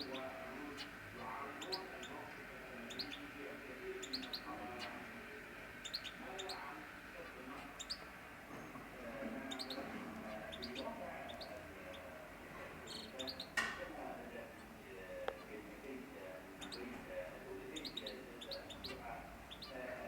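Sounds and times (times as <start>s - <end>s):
canaries chirping: 0.0s - 20.0s.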